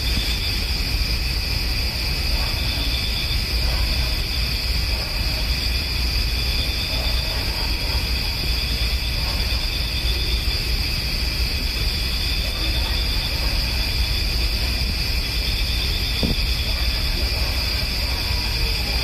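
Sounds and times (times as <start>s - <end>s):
night insects chirping: 0.0s - 19.0s.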